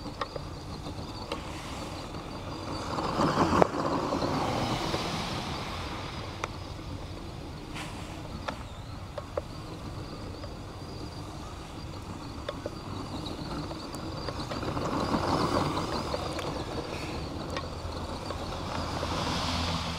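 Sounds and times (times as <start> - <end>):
toy truck motor whining: 0.0 - 19.9
tyres churning snow: 0.0 - 19.9.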